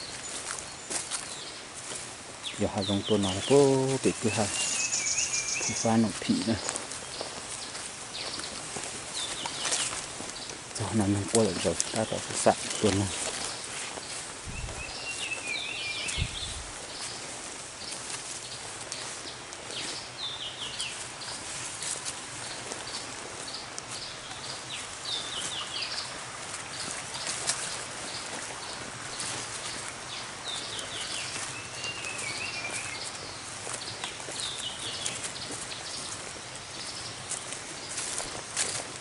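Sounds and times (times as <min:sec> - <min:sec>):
birds chirping: 0:00.0 - 0:39.0
footsteps in dry leaves: 0:00.0 - 0:39.0.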